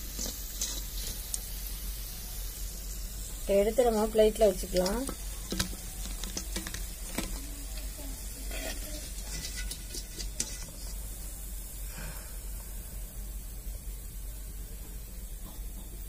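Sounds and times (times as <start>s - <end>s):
crackles and pops of frying: 0.0s - 16.0s
oil sizzling: 0.0s - 16.0s.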